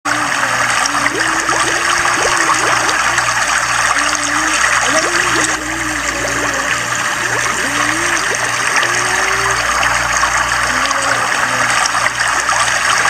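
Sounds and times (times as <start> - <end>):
river water churning: 0.2 - 13.0.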